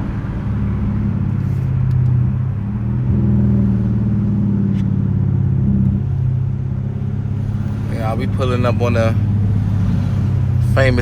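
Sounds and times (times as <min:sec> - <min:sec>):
car exhaust rumbling: 0:00.0 - 0:11.0.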